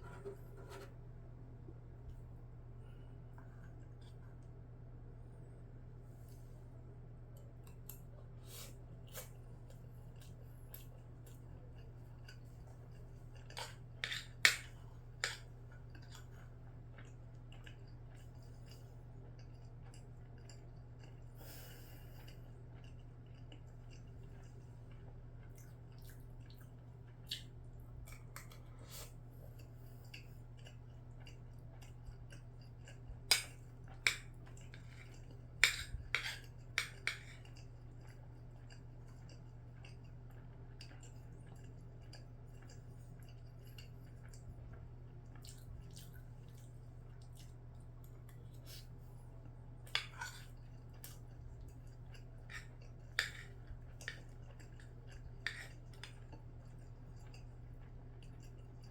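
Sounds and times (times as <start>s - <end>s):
steady low hum: 0.0s - 58.9s
faint chewing: 2.1s - 4.6s, 7.3s - 58.9s.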